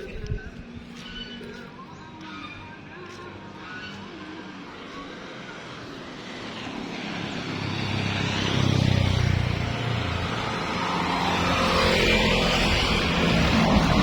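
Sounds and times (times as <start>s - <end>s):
vehicle engine: 0.0s - 14.0s.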